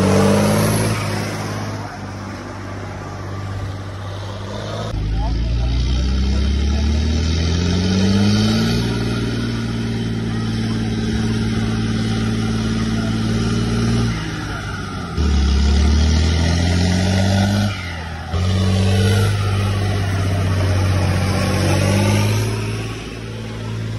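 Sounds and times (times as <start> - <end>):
tractor diesel engine under load: 0.0 - 23.9.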